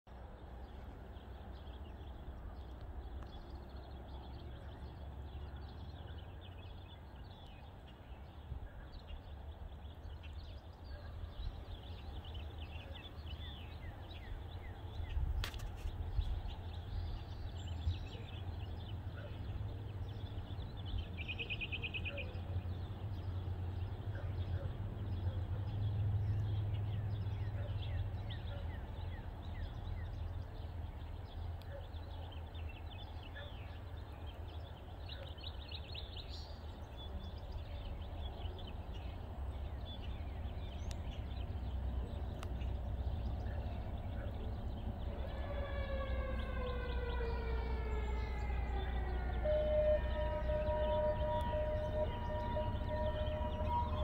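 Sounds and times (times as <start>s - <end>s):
birds chirping and singing: 0.1s - 54.0s.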